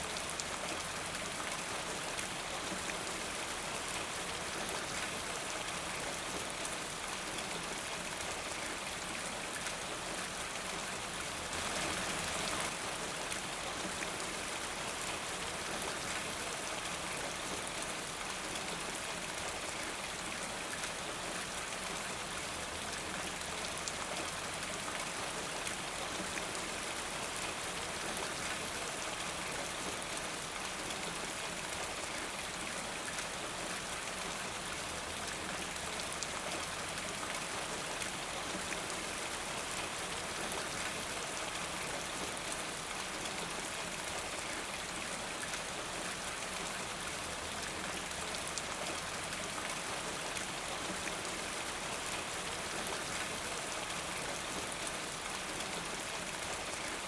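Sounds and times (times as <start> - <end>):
rain patter: 0.0 - 57.0.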